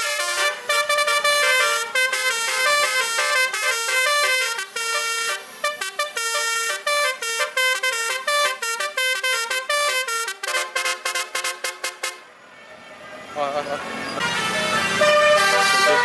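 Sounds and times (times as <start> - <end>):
multi-trumpet air horn melody: 0.0 - 12.3, 14.2 - 16.0.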